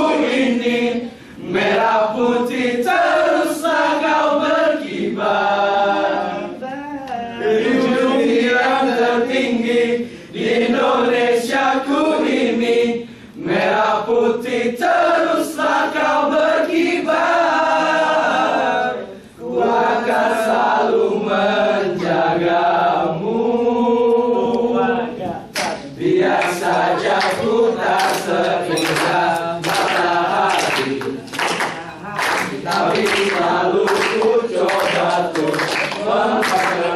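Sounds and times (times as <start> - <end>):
men singing unaccompanied: 0.0 - 36.9.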